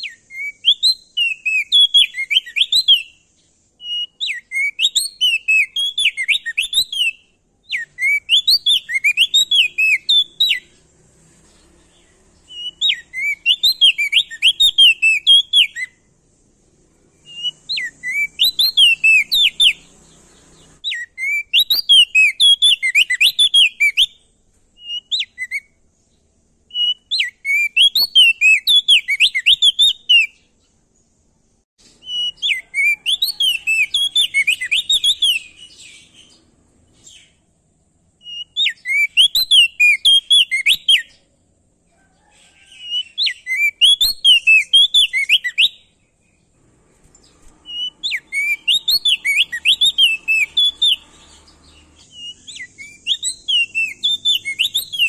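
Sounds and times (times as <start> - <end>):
songbird whistling song: 0.0 - 55.0.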